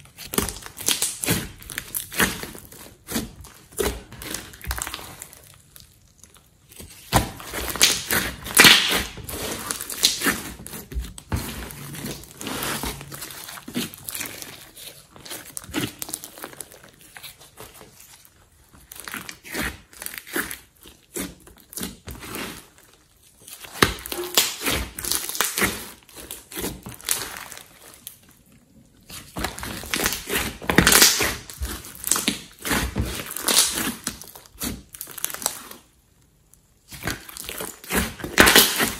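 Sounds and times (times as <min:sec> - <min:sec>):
slime squelching and crackling: 0:00.0 - 0:38.9.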